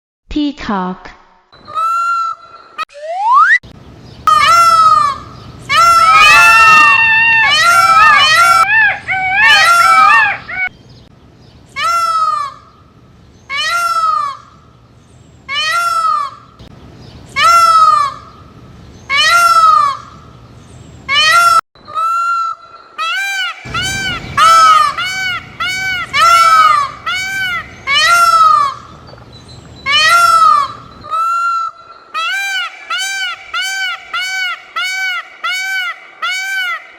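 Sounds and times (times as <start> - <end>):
peacock calling: 1.6 - 2.8, 4.3 - 10.8, 11.8 - 14.8, 15.5 - 16.6, 17.3 - 36.9.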